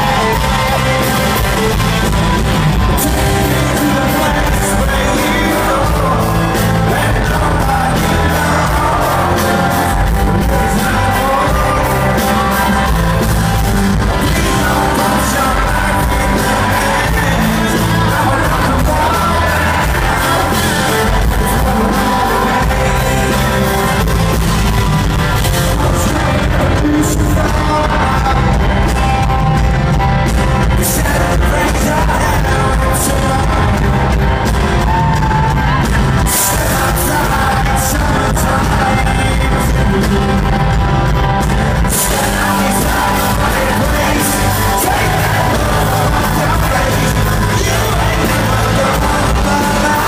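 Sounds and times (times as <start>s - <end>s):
audience shouting: 0.0s - 50.0s
live rock band playing: 0.0s - 50.0s
person singing: 0.0s - 50.0s.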